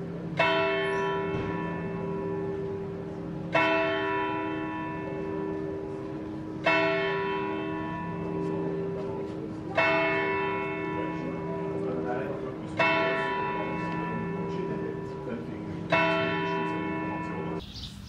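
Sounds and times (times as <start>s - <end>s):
large church bell tolling: 0.0s - 17.6s.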